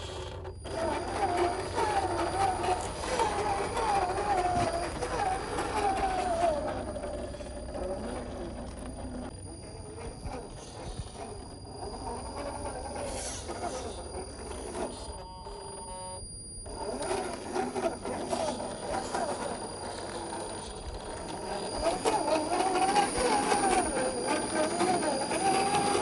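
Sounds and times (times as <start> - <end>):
electric motor and gearbox whine: 0.0 - 26.0.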